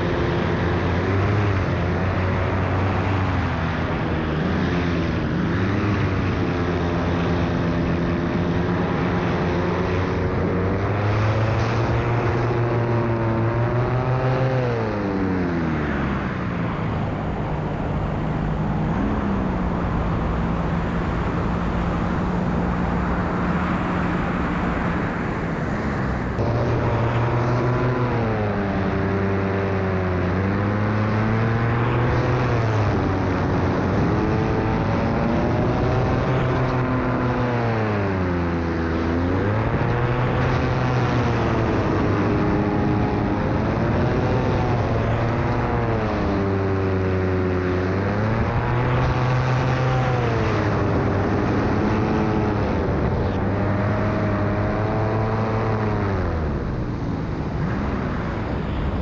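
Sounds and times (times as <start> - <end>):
two-stroke paramotor engine: 0.0 - 59.0.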